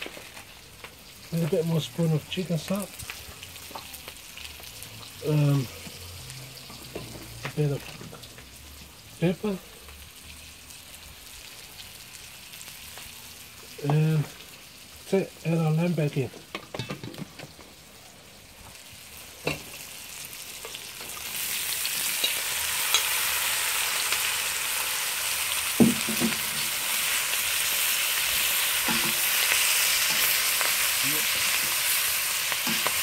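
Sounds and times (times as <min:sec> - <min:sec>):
meat sizzling in a wok: 0:00.0 - 0:33.0.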